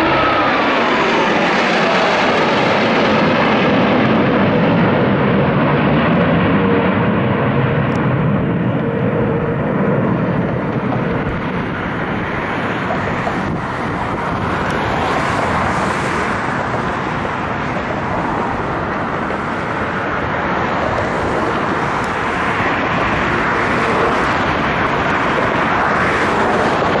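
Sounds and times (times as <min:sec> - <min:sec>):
jet engines flying over: 0:00.0 - 0:27.0.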